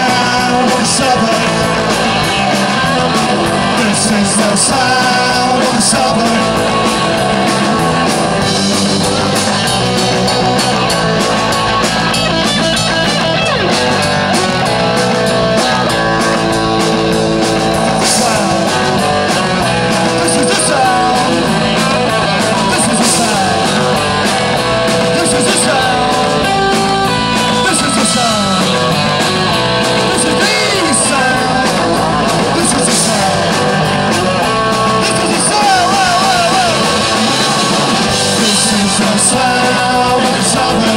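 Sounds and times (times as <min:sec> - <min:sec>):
electric guitar: 0:00.0 - 0:40.9
rock band playing punk: 0:00.0 - 0:40.9.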